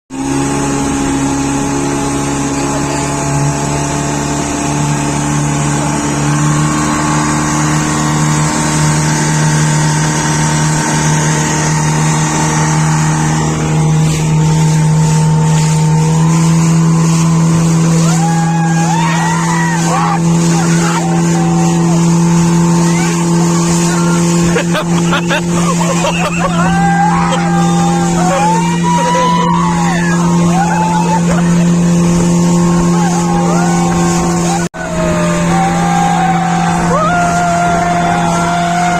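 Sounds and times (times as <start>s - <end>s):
motorboat engine droning: 0.1s - 38.9s.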